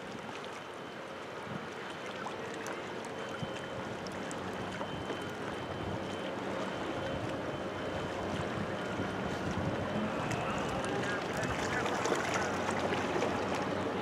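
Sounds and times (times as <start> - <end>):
distant ship engine drone: 0.0 - 14.0
water noise: 0.0 - 14.0
wind: 0.0 - 14.0.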